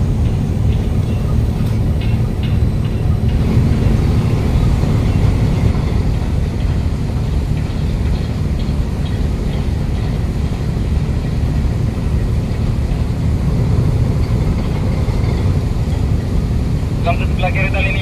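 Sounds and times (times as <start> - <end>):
diesel engine rumbling: 0.0 - 18.0.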